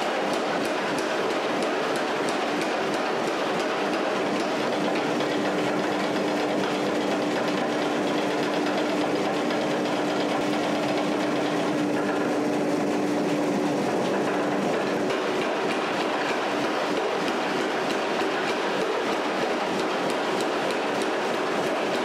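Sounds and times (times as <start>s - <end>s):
power hammer striking metal: 0.0s - 12.3s, 14.1s - 22.0s.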